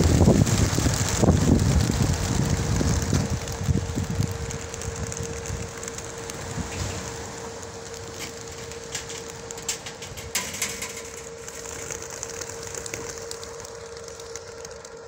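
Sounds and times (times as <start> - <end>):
pigeon wingbeats rushing: 0.0 - 15.0
steady hum: 0.0 - 15.0.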